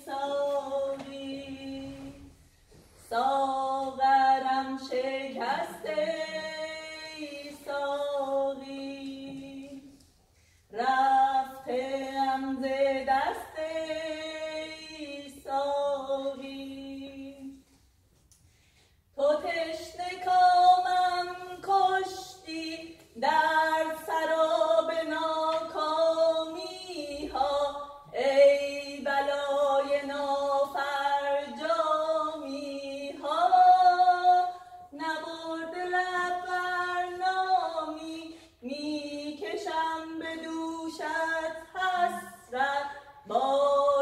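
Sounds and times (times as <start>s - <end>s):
woman singing unaccompanied: 0.0s - 2.3s, 3.0s - 10.0s, 10.7s - 17.6s, 19.2s - 44.0s.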